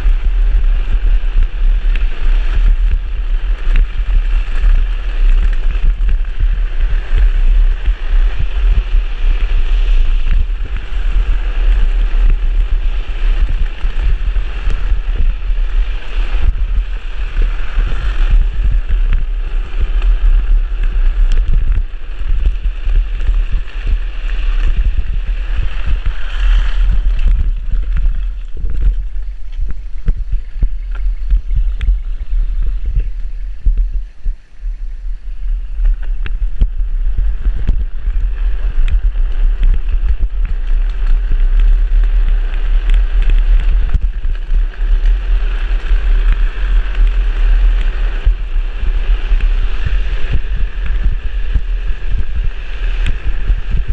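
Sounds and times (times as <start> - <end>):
wheels scraping on asphalt: 0.0 - 53.9
wind buffeting microphone: 0.0 - 53.9.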